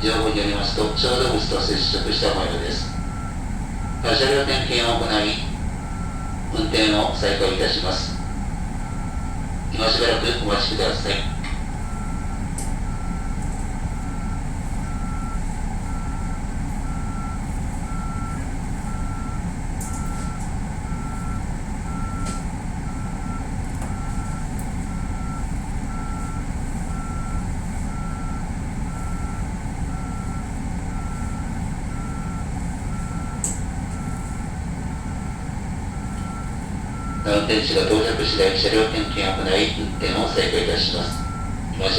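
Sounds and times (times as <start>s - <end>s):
low rumble of train equipment: 0.0s - 41.9s.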